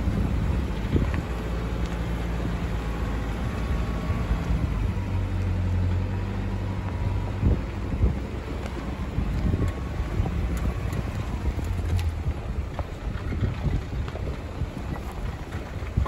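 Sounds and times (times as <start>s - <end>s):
car engine hum: 0.0s - 16.0s
rough road noise: 0.0s - 16.0s.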